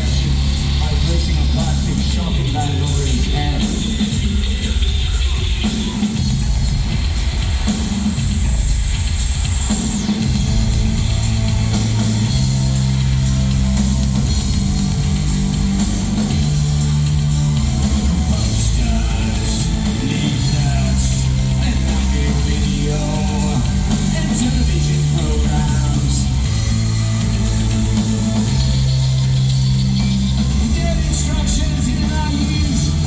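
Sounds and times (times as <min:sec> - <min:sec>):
electro-industrial music: 0:00.0 - 0:33.0.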